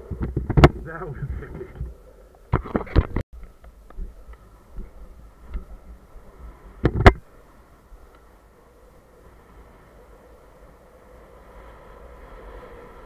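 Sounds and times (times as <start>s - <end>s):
wind rushing over microphone: 0.0s - 3.2s, 4.0s - 13.0s
longboard wheels rolling on asphalt: 0.0s - 13.0s.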